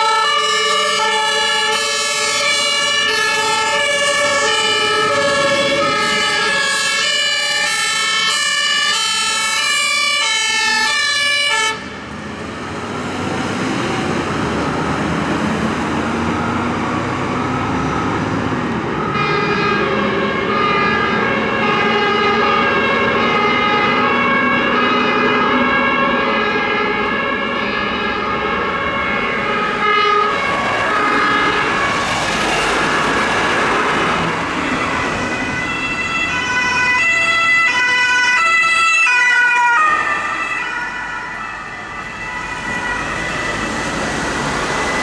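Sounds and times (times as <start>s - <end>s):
fire truck passing by: 0.0s - 45.0s
two-tone fire engine sirens: 0.0s - 45.0s.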